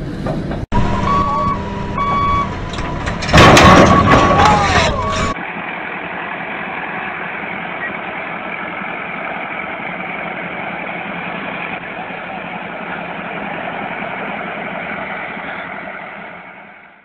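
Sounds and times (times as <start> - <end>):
tractor engine droning: 0.0 - 17.0
vehicle rumble: 0.0 - 17.0.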